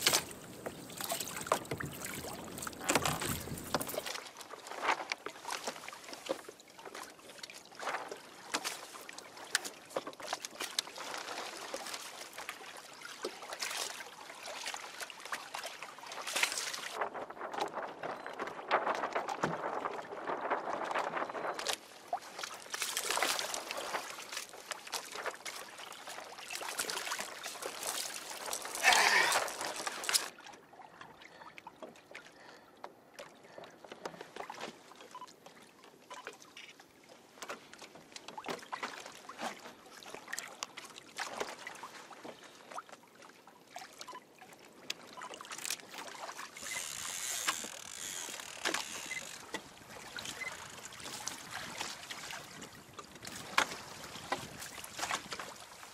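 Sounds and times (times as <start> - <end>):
water splashing against kayak hull: 0.0 - 55.9.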